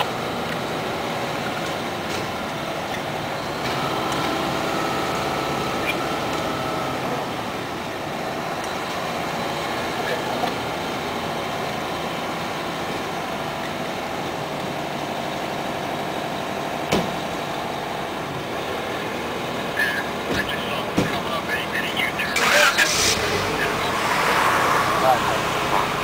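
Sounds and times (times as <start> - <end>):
fire engines idling: 0.0 - 26.0.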